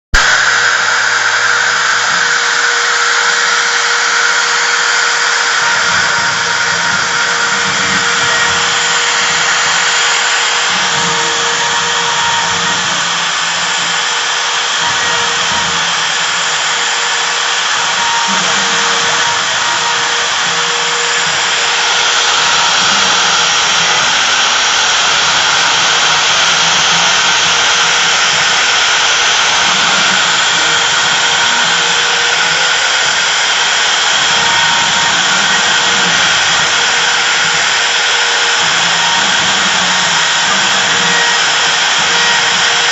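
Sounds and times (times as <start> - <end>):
router spindle running: 0.1 - 42.9.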